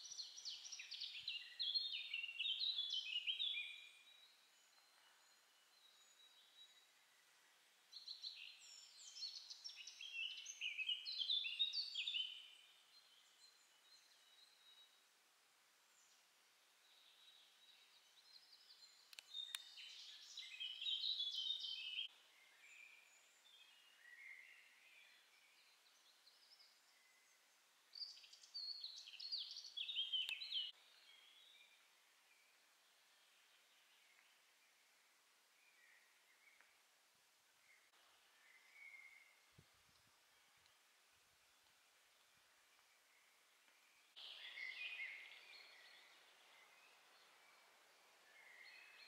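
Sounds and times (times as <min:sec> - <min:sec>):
songbird chirping: 0:00.0 - 0:49.0.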